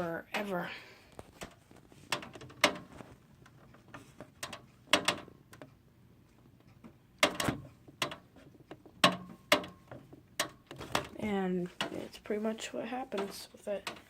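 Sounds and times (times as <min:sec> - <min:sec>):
loose fan clicking and knocking: 0:01.2 - 0:14.0.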